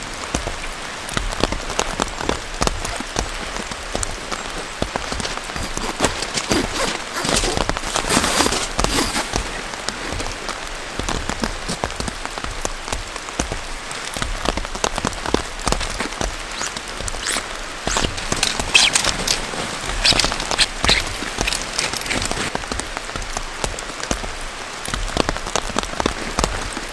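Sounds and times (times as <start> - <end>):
heavy rain: 0.0 - 26.9
raindrops ticking close by: 0.0 - 26.9.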